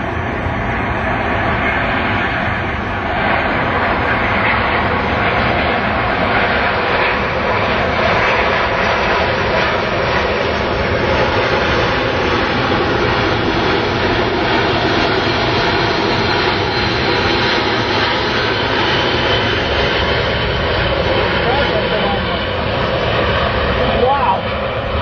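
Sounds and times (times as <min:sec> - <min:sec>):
jet engines roaring overhead: 0:00.0 - 0:25.0.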